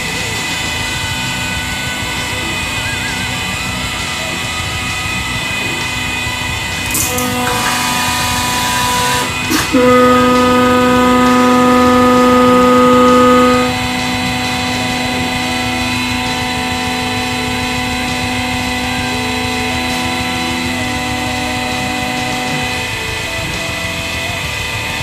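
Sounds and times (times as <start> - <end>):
hydraulic pump motor humming: 1.4 - 25.0.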